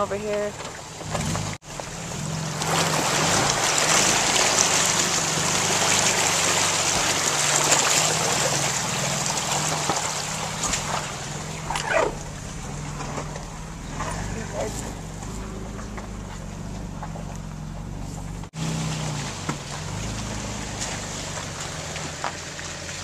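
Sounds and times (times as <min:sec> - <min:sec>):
water rushing and splashing: 0:00.0 - 0:17.2, 0:18.3 - 0:23.0
car engine running: 0:00.0 - 0:23.0.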